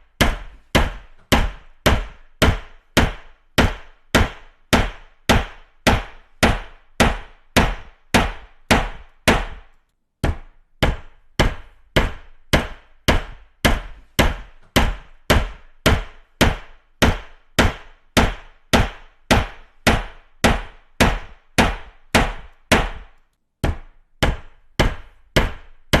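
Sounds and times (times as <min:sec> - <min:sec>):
hammer knocking: 0:00.2 - 0:26.0.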